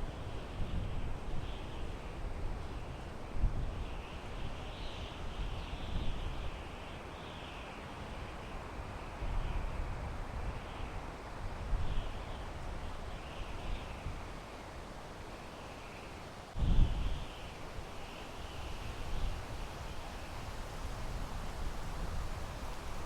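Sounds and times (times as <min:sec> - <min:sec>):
wind through pine trees: 0:00.0 - 0:23.0.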